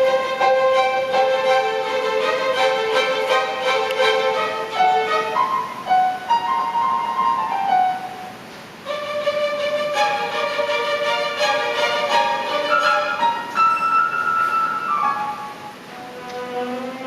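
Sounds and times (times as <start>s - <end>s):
violins: 0.0s - 8.2s, 8.8s - 17.0s
orchestra playing classical music: 0.0s - 17.0s.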